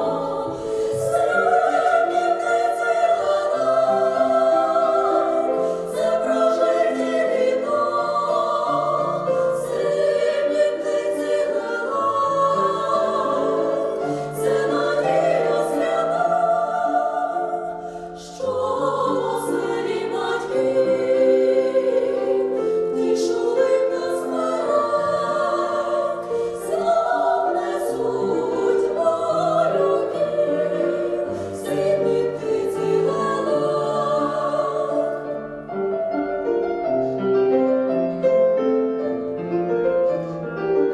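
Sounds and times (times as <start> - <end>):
vocal ensemble singing in harmony: 0.0 - 40.9.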